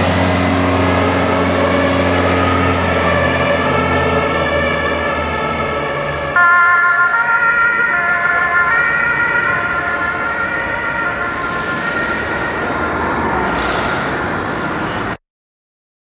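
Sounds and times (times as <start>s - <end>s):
passing road traffic: 0.0s - 15.2s
two-tone siren: 0.0s - 15.2s.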